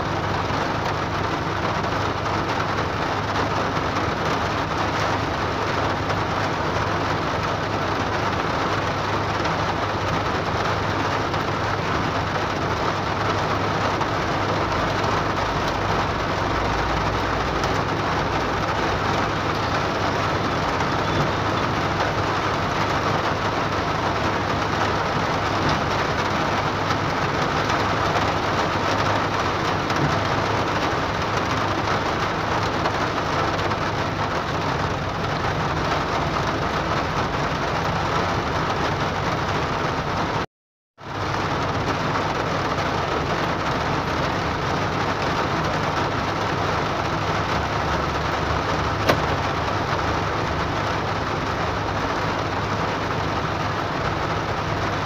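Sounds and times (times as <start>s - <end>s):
hard rain on car roof: 0.0s - 55.0s.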